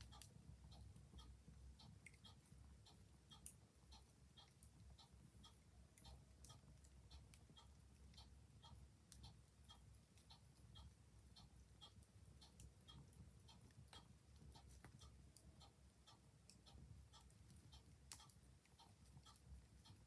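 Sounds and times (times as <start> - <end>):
clock ticking: 0.0 - 20.0.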